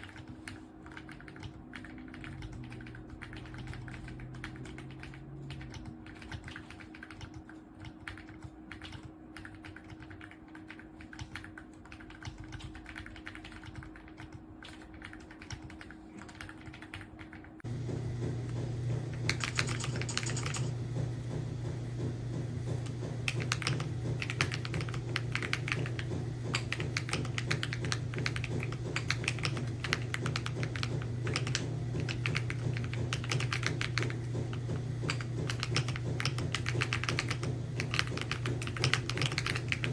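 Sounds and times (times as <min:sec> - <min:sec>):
mechanical keyboard typing: 0:00.0 - 0:17.6, 0:19.1 - 0:39.9
steady low hum: 0:00.0 - 0:39.9.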